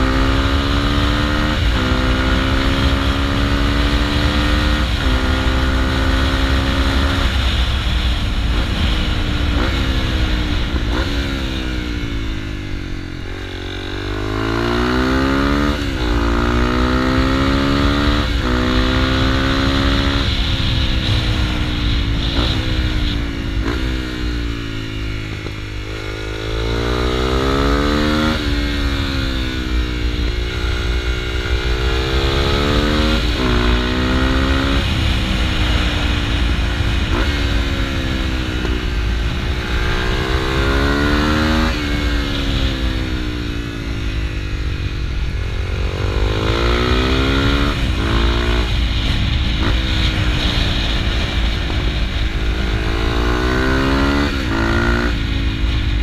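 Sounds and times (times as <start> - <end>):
low rush of wind: 0.0 - 56.0
motorcycle engine revving: 0.0 - 56.0.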